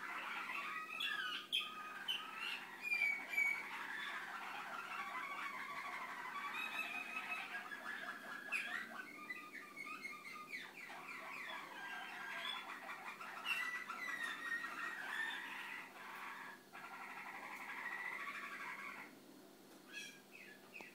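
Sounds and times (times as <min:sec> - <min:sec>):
canary singing trills: 0:00.0 - 0:19.1, 0:19.9 - 0:20.9.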